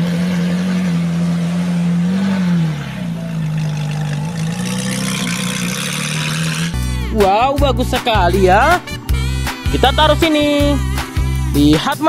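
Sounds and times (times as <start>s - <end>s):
car engine at raised revs: 0.0s - 11.6s.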